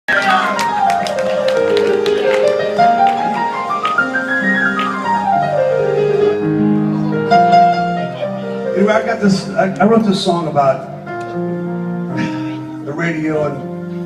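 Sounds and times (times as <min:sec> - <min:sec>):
solo piano runs: 0:00.4 - 0:14.0.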